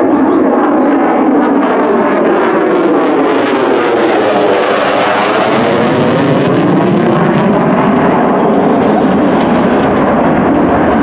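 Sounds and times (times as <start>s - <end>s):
jet engine roaring overhead: 0.0s - 11.0s.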